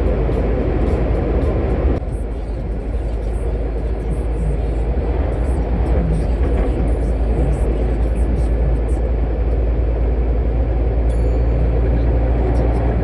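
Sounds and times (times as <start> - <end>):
road and wind noise: 0.0 - 13.0
truck engine drone: 0.0 - 13.0.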